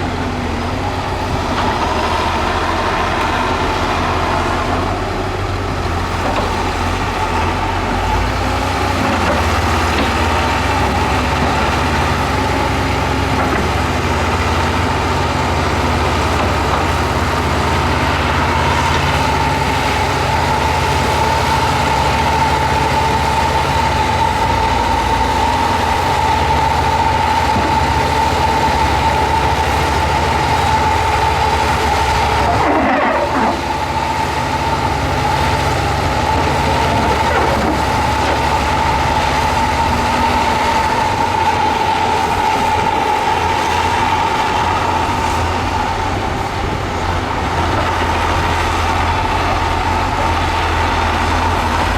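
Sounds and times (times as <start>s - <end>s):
diesel machinery running: 0.0s - 51.9s.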